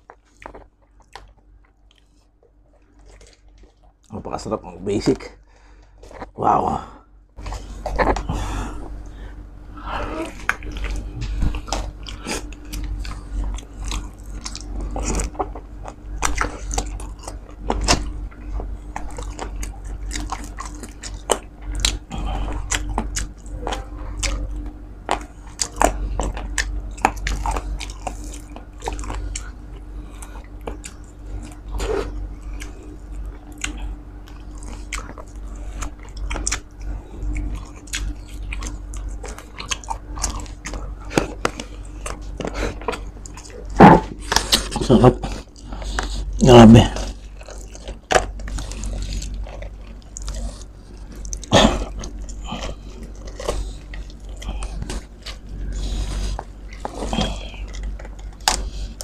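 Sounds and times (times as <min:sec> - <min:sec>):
close chewing and biting: 0:00.0 - 0:06.4, 0:07.4 - 0:59.0
faint steady hum: 0:00.0 - 0:59.0.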